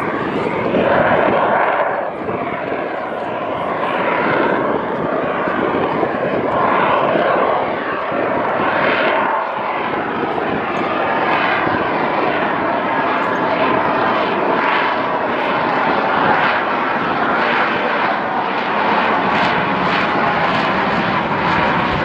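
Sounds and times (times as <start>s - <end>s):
jet engine roar overhead: 0.0s - 22.0s.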